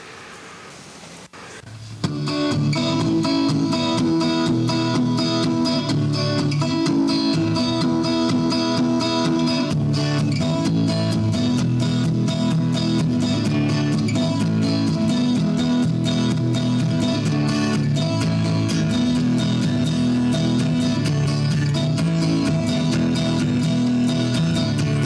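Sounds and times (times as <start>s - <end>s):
strummed guitar chords: 2.0s - 25.0s.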